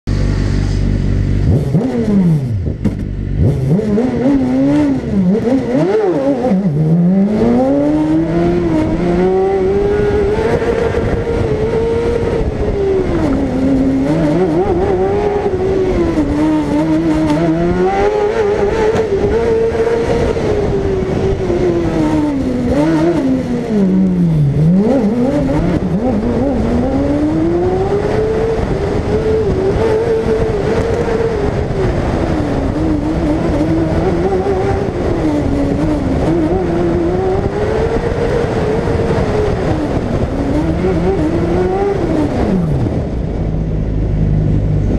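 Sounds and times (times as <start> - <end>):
race car engine revving: 0.1 - 44.9.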